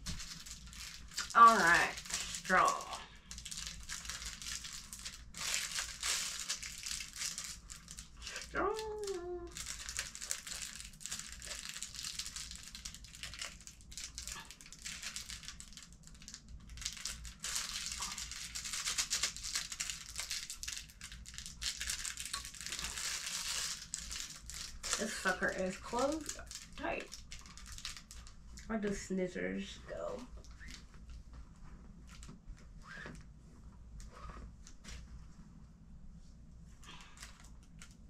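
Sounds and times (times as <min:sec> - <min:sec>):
plastic packaging crinkling: 0:00.0 - 0:28.8, 0:30.0 - 0:31.2, 0:36.9 - 0:38.0.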